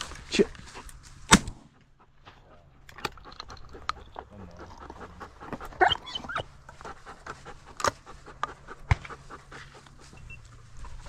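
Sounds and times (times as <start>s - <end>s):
dog panting: 1.7s - 11.0s.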